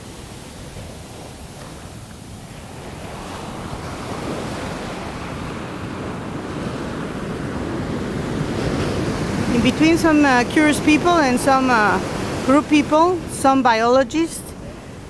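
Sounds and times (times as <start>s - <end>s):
surf washing up beach: 0.0s - 15.0s
wind rumbling on microphone: 0.0s - 15.0s.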